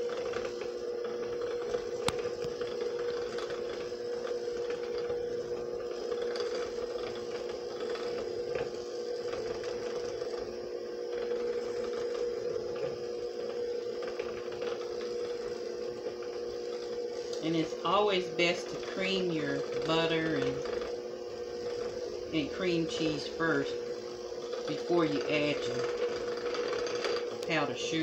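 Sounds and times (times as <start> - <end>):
electric hand mixer running: 0.0 - 28.0.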